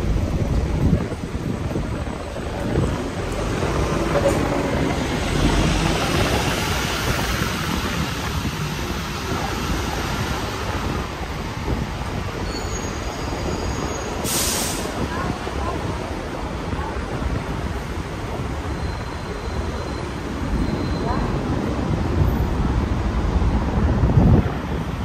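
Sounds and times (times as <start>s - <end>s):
rumble of passing vehicles: 0.0s - 25.0s.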